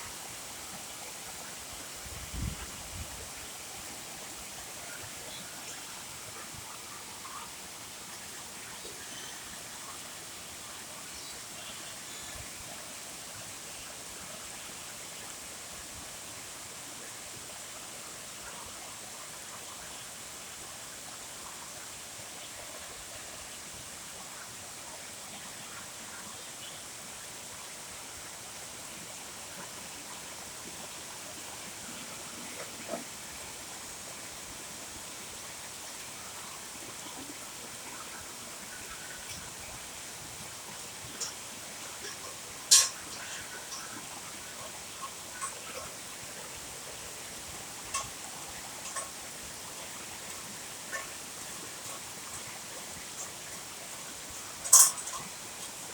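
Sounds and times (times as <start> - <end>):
rain falling steadily: 0.0 - 55.9.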